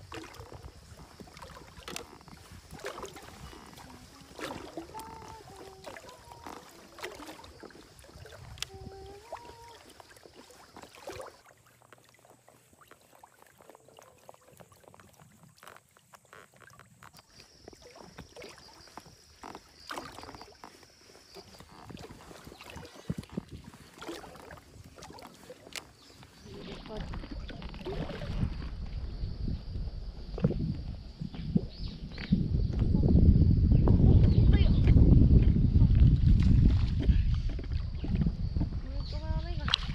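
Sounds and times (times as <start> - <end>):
water lapping against boat: 0.0 - 33.1, 33.8 - 39.9.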